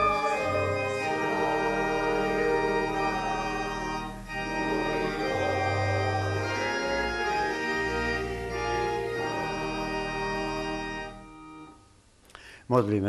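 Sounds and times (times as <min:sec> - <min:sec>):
church organ playing a hymn: 0:00.0 - 0:11.9.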